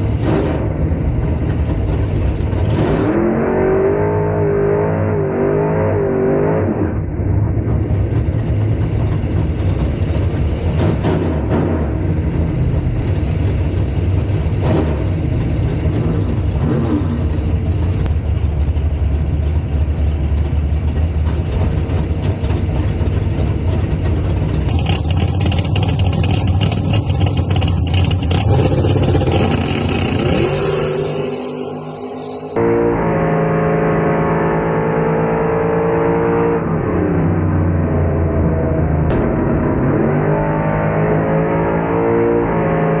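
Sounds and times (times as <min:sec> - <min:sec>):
engine revving: 0:00.0 - 0:18.2, 0:24.6 - 0:43.0
race car engine rumbling: 0:00.0 - 0:43.0.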